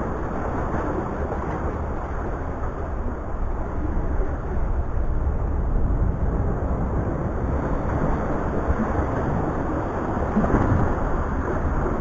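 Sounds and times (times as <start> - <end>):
sea waves against rocks: 0.0 - 12.0
wind rumbling on microphone: 0.0 - 12.0.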